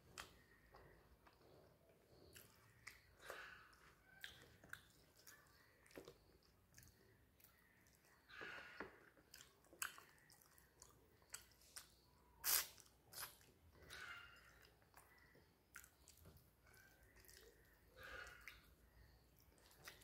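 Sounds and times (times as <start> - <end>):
chewing and wet mouth smacks: 0.1 - 20.0.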